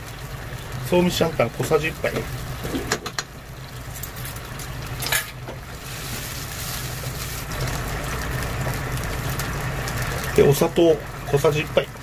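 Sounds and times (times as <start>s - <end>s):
sauce bubbling in wok: 0.0s - 12.0s.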